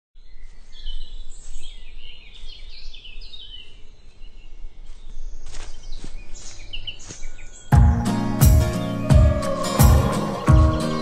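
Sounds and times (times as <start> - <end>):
songbirds chirping: 0.2 - 11.0.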